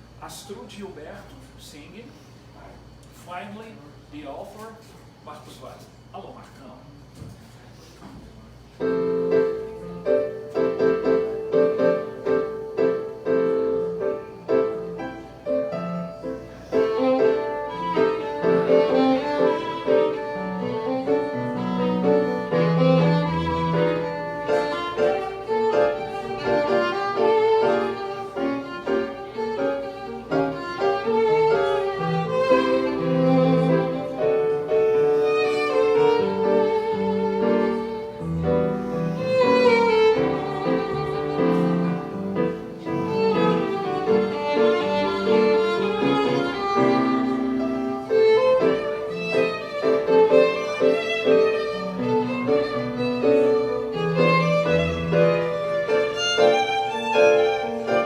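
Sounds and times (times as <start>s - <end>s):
piano accompaniment: 8.8s - 58.0s
violin melody: 8.8s - 58.0s.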